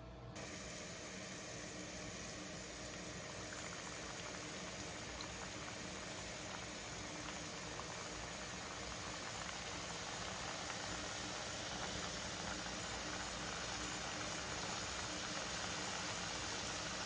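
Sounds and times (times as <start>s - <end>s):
dough deep-frying in hot oil: 0.4s - 17.0s.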